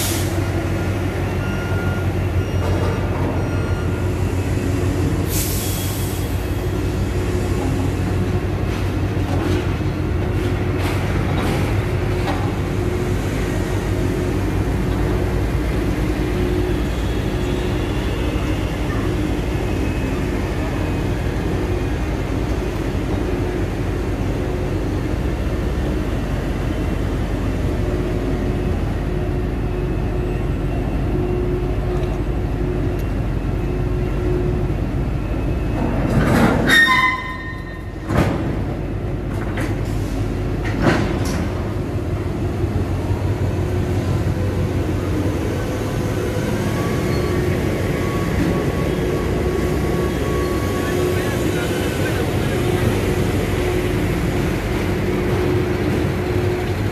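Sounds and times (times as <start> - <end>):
machinery rumble and hum: 0.0 - 56.9.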